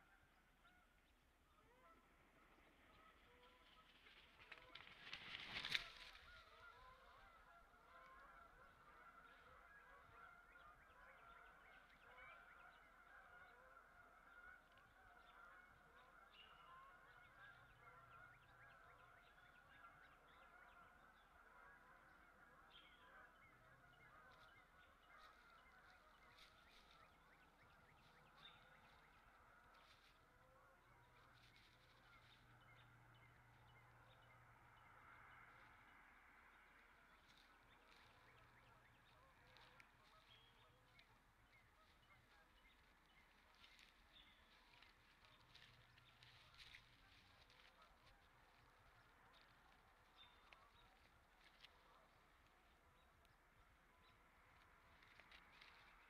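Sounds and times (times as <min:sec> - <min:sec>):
distant flock of birds calling: 0:00.0 - 0:56.0.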